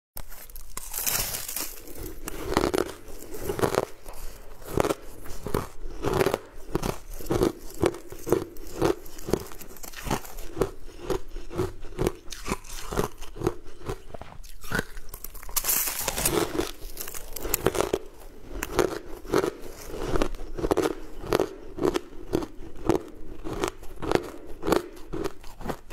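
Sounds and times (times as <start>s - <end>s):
crunching and chewing hard candy: 0.2s - 25.9s.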